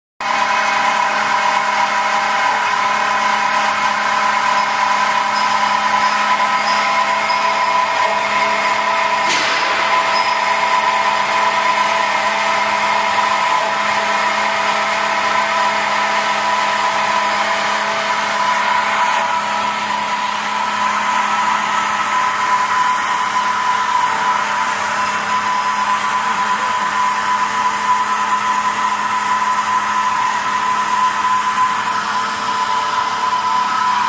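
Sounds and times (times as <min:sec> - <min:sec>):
band saw cutting steel: 0:00.2 - 0:34.0.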